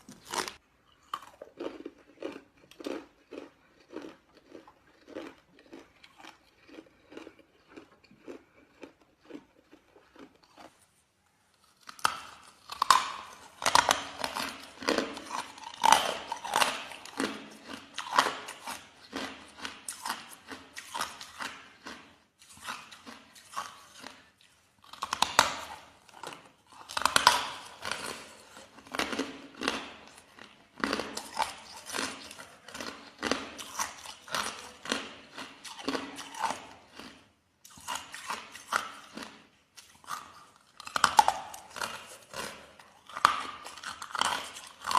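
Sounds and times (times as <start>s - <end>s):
person crunching ice: 0.0s - 10.8s, 11.6s - 24.2s, 24.8s - 44.9s.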